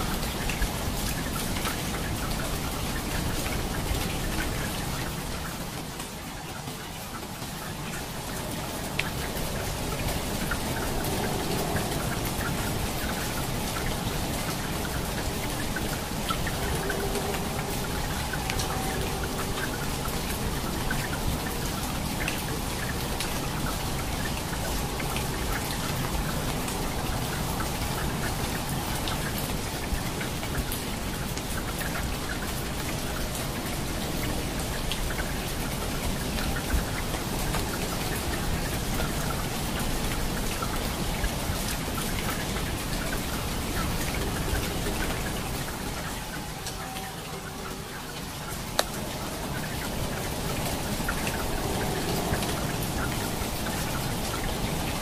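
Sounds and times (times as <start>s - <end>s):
raindrops ticking on hard surface: 0.0s - 55.0s
steady rain hiss: 0.0s - 55.0s.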